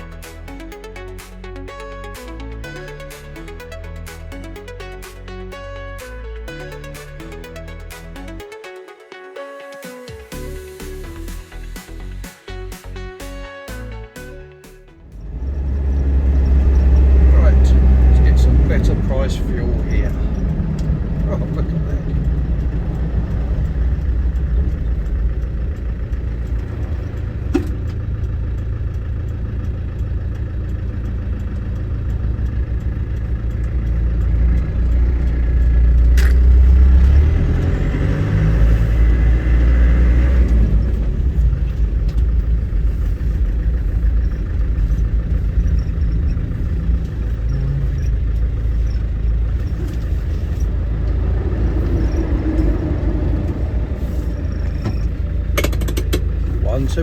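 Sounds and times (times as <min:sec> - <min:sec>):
diesel engine and road noise: 0:00.0 - 0:57.0.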